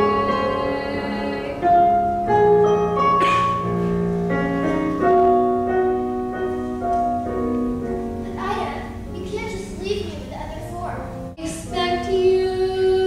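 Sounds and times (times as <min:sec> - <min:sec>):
piano ballad accompaniment: 0:00.0 - 0:13.0.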